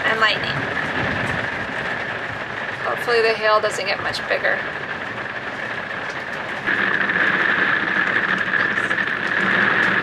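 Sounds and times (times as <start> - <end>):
rain and hail on roof: 0.0 - 10.0.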